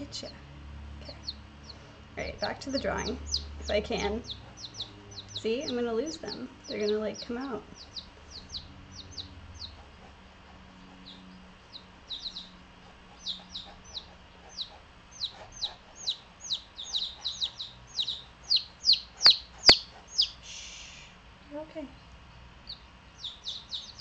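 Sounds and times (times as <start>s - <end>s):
baby chicks peeping: 0.0s - 21.2s, 21.8s - 24.0s.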